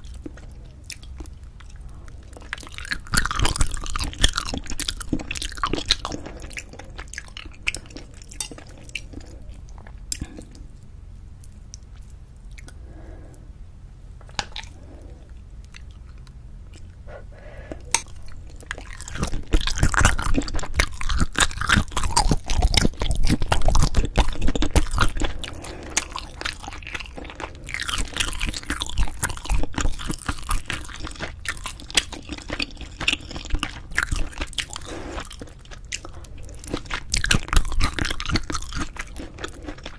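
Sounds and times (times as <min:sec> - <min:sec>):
close chewing and mouth sounds: 0:00.0 - 0:13.4, 0:14.2 - 0:39.9.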